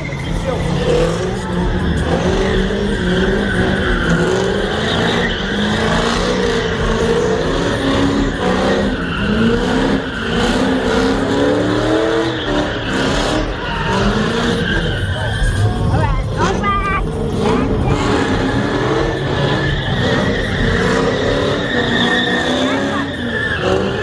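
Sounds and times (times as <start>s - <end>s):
car engine revving: 0.0s - 24.0s
tires squealing: 0.0s - 24.0s.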